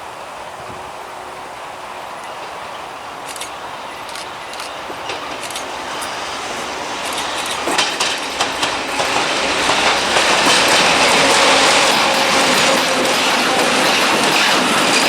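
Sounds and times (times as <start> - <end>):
freight train rolling past: 0.0 - 15.0
wheels clicking over rail joints: 0.5 - 15.0.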